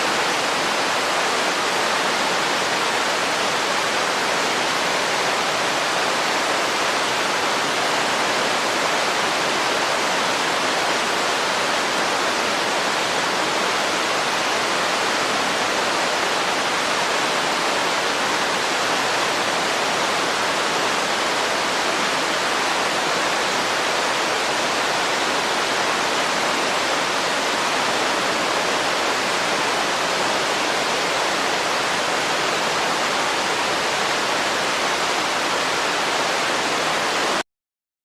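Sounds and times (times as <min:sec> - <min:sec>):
rush of running water: 0:00.0 - 0:37.4.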